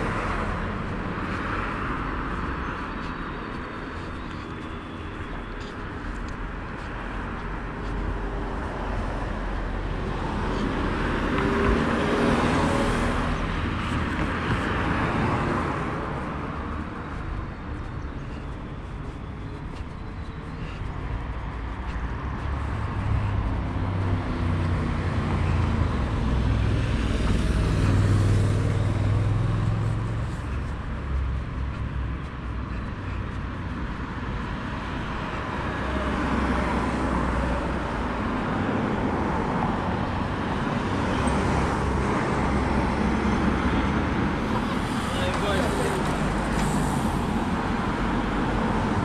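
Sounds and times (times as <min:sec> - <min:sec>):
cars passing: 0:00.0 - 0:49.0.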